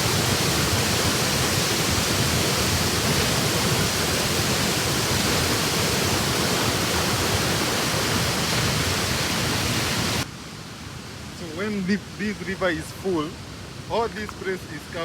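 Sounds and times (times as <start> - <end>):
waterfall rushing: 0.0 - 10.3, 11.1 - 15.0.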